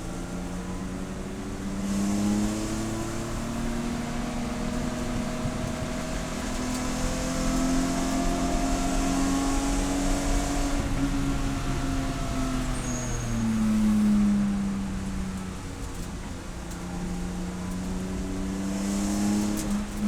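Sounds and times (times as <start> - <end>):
race car engine running: 0.0 - 20.0.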